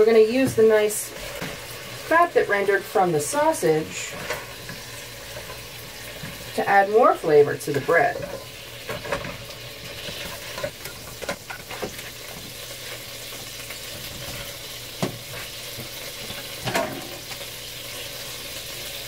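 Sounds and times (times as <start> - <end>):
fat sizzling in a skillet: 0.0 - 19.0.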